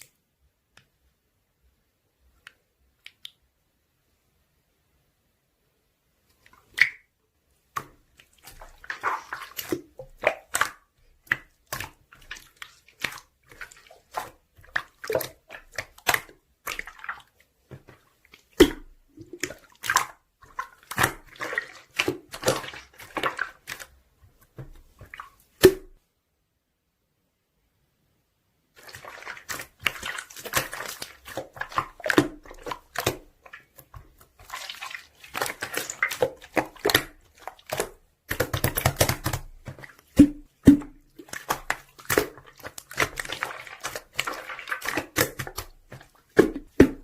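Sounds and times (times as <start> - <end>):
slime squelching by hand: 6.3 - 26.0, 28.7 - 47.0.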